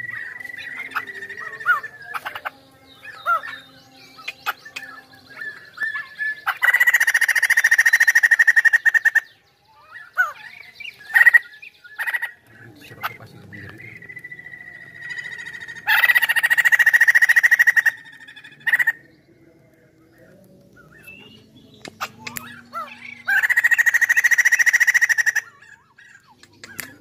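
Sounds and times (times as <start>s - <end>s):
bird chattering trills: 0.0s - 27.0s.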